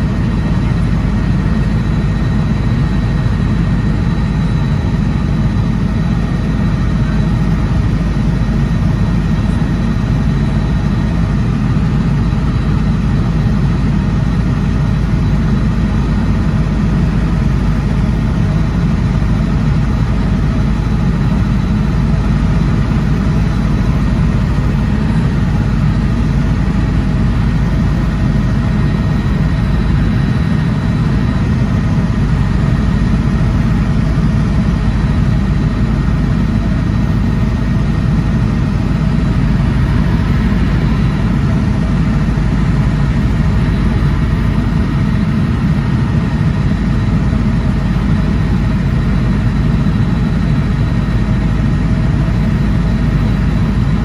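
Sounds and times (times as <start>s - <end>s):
faint high whine: 0.0s - 54.0s
helicopter engine and rotor rumble: 0.0s - 54.0s.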